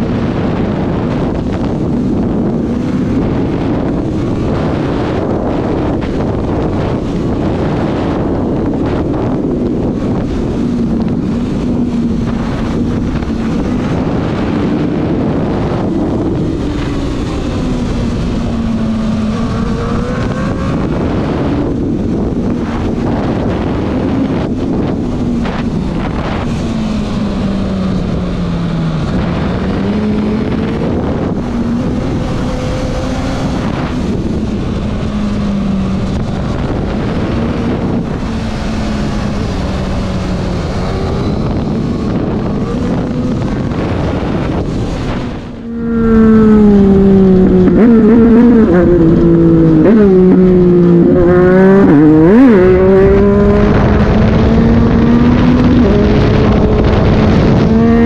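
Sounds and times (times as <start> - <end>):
motorcycle engine revving: 0.0 - 58.0
wind noise on microphone: 0.0 - 58.0.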